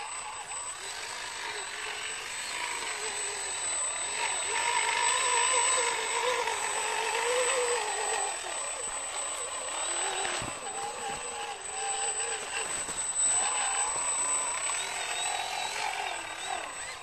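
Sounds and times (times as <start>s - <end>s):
model truck motor whining: 0.0s - 17.0s.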